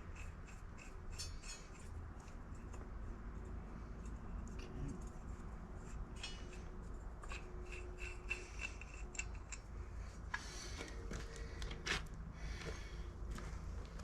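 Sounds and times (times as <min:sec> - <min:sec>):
metallic clicks and scrapes: 0:00.0 - 0:12.2.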